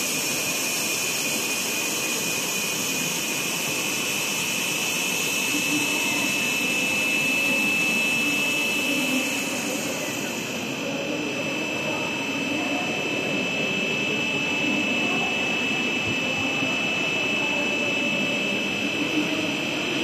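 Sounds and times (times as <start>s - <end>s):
high machine whine: 0.0s - 20.0s.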